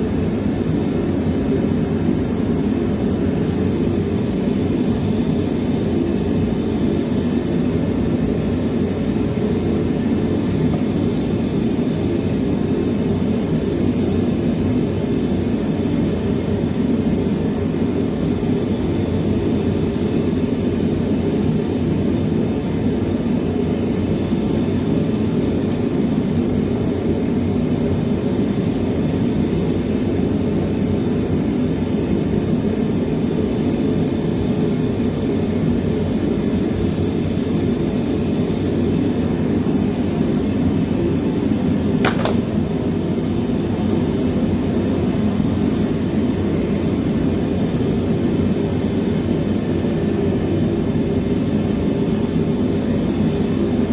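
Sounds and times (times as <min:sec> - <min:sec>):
furnace burner roaring: 0:00.0 - 0:53.9.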